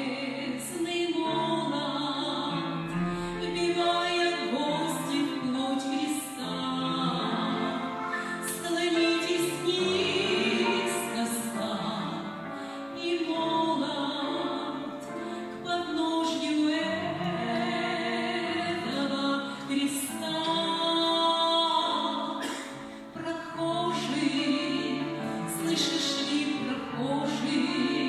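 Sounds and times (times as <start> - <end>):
person singing with vibrato: 0.0 - 28.0.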